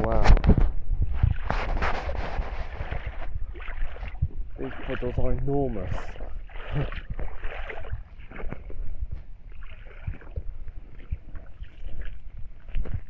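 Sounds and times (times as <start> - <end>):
footsteps splashing through puddles: 0.0 - 13.0.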